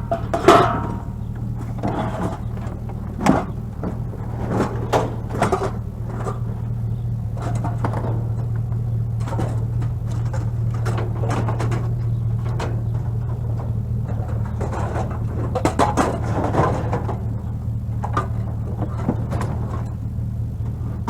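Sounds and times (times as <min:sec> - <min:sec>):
objects knocking and clattering: 0:00.0 - 0:20.0
vehicle engine idling: 0:00.0 - 0:21.0.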